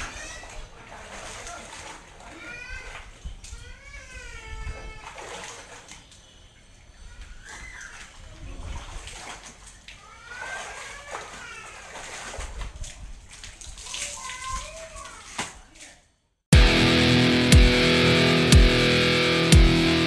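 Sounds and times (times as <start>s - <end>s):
water splashing and sloshing: 0.0s - 16.1s
wet clothes wrung in buckets: 0.0s - 16.1s.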